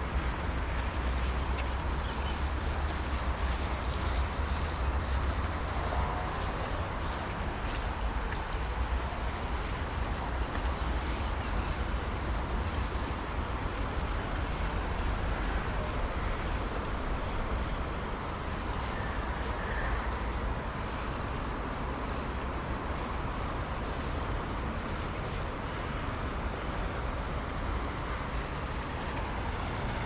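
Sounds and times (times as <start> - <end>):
distant traffic rumble: 0.0 - 25.0, 26.2 - 30.0.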